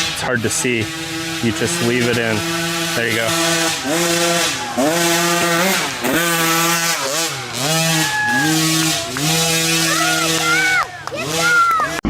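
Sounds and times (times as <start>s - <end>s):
racing engine revving hard: 0.0s - 12.0s.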